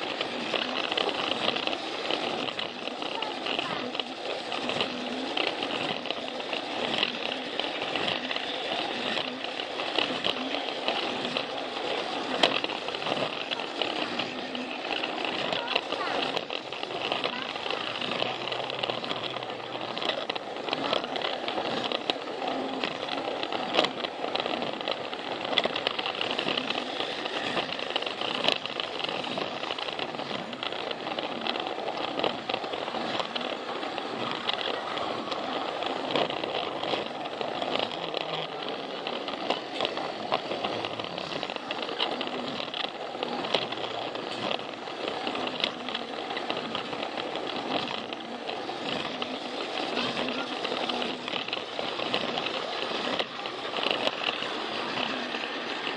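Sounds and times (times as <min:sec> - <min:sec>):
toy train rattling on plastic track: 0:00.0 - 0:55.9.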